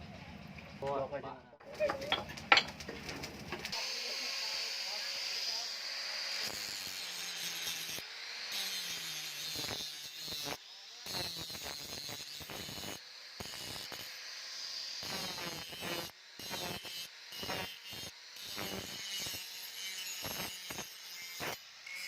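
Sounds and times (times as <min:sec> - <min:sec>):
tool scraping steel: 0:01.8 - 0:22.0.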